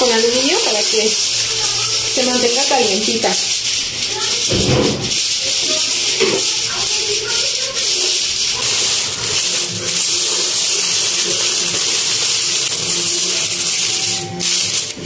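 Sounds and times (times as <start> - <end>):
aluminium foil crinkling: 0.0 - 15.0
steady hiss: 0.0 - 15.0.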